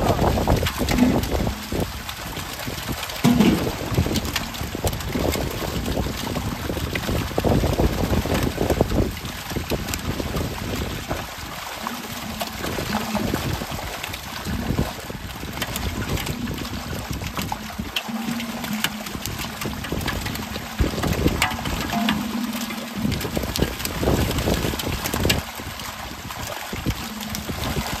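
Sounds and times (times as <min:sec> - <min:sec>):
fish thrashing and splashing: 0:00.0 - 0:28.0
water sloshing: 0:00.0 - 0:28.0.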